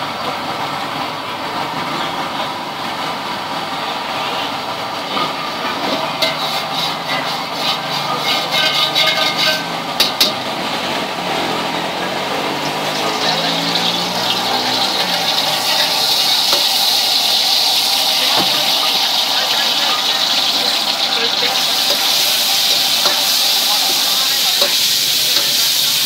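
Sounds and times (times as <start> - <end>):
traffic and engines hum: 0.0 - 26.0.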